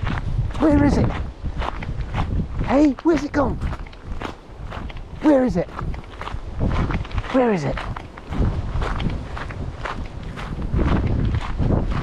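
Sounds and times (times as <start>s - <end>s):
footsteps on forest path: 0.0s - 12.0s.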